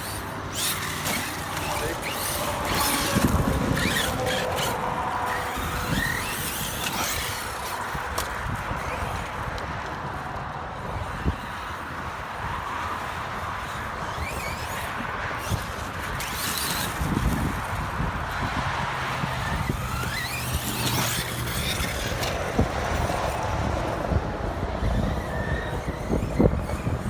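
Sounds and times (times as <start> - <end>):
electric motor whine: 0.0 - 10.0, 13.8 - 27.0
tyres on gravel: 0.0 - 27.0.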